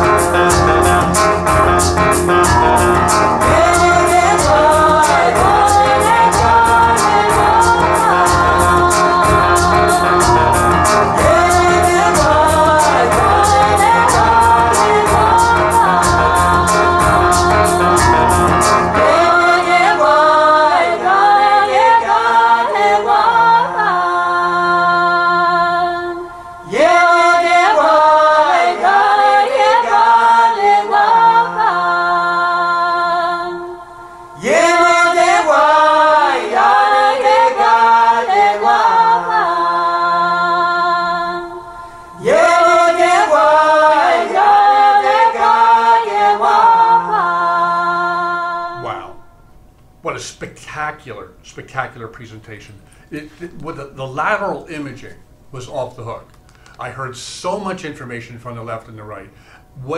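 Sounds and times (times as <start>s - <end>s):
a cappella group singing in harmony: 0.0s - 50.2s.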